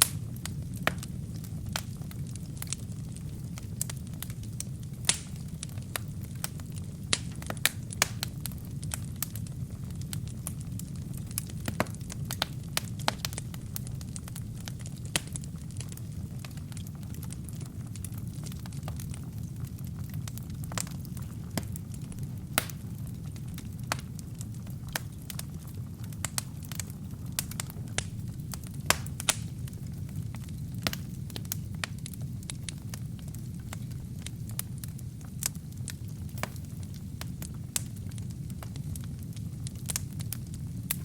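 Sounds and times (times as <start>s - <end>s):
fire crackling and popping: 0.0s - 41.0s
low rumble of flames: 0.0s - 41.0s.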